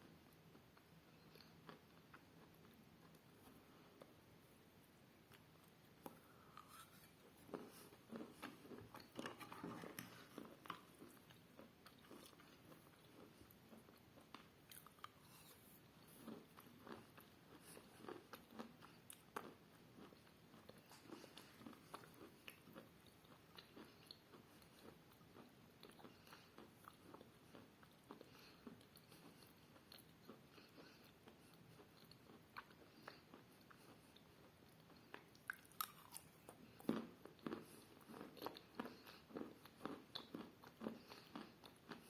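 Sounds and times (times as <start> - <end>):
person chewing chalk: 5.3 - 42.0.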